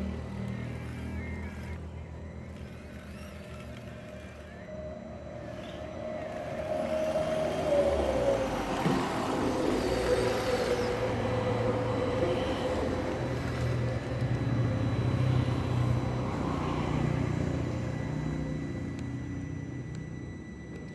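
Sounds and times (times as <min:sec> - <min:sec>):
electric motor whine: 0:00.0 - 0:20.9.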